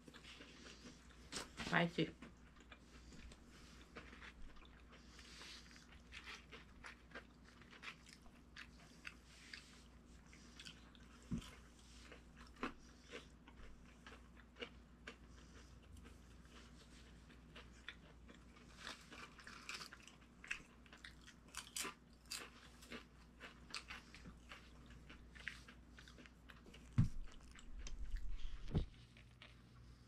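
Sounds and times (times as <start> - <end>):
person chewing crisp food: 0.0 - 1.6, 2.2 - 30.0.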